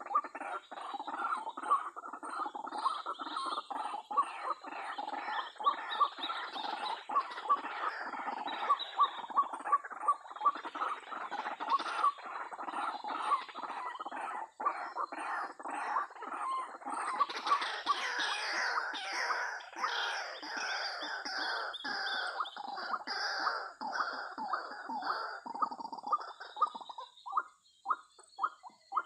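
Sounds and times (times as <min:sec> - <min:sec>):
bird harsh croaking calls: 0:00.0 - 0:29.0.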